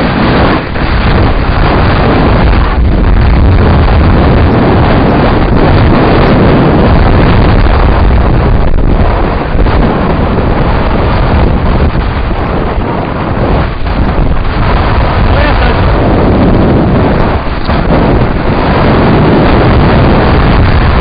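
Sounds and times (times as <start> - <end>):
bike rumbling on dirt track: 0.0 - 21.0
wind noise on microphone: 0.0 - 21.0.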